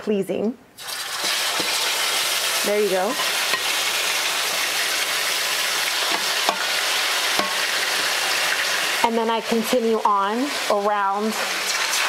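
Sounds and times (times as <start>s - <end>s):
meat sizzling in hot oil: 0.8s - 12.0s.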